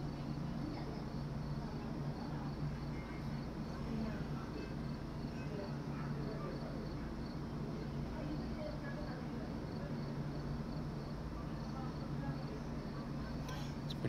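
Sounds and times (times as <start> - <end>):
insects chirping: 0.0 - 14.0
low steady hum: 0.0 - 14.0.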